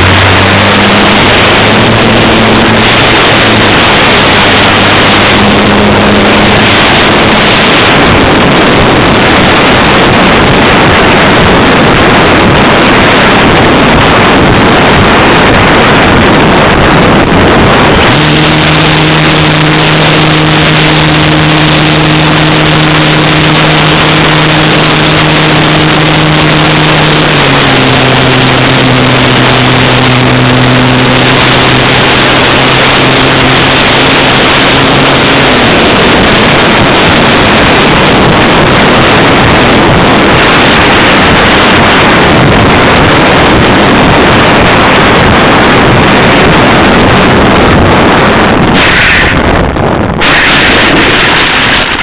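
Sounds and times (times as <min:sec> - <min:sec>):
model aircraft motor humming: 0:00.0 - 0:49.5
wind on microphone: 0:00.0 - 0:52.0.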